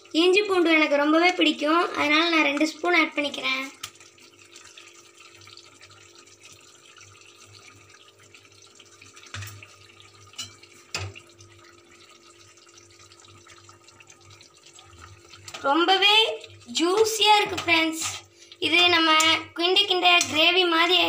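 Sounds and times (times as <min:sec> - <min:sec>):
gravy simmering hiss: 0:00.0 - 0:21.0.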